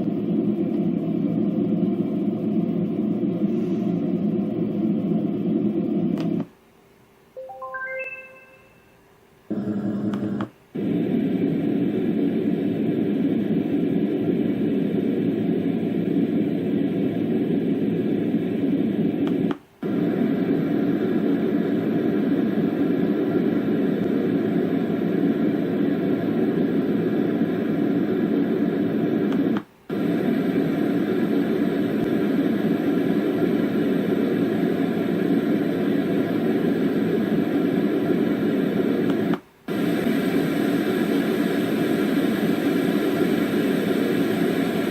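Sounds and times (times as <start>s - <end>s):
white noise machine: 0.0s - 44.9s.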